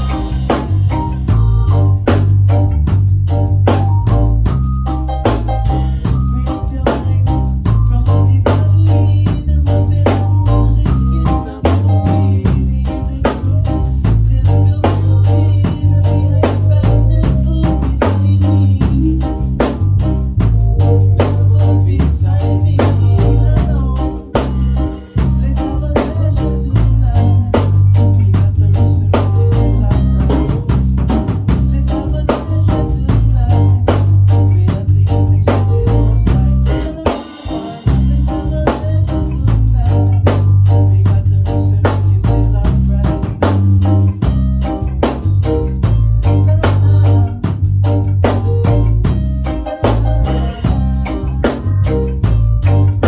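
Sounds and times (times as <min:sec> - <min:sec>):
heavy bass line: 0:00.0 - 0:53.0
reggae band playing: 0:00.0 - 0:53.0.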